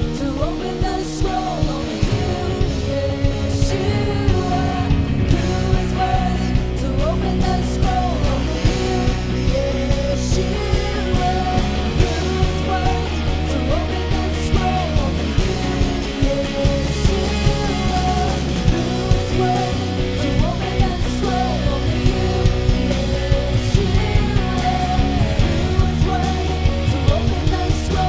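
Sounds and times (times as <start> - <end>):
steady drum beat: 0.0 - 28.0
worship band playing: 0.0 - 28.0.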